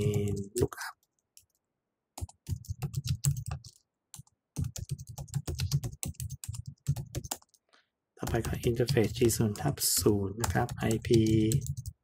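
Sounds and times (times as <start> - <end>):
typing on computer keyboard: 0.0 - 1.6, 2.2 - 12.0.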